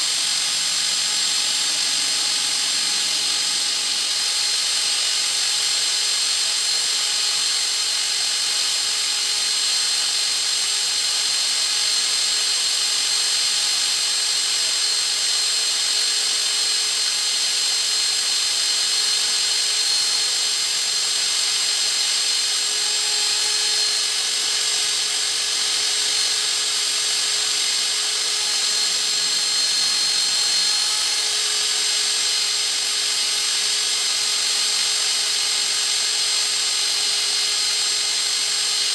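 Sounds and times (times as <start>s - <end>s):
power tool hissing and whining: 0.0s - 38.9s.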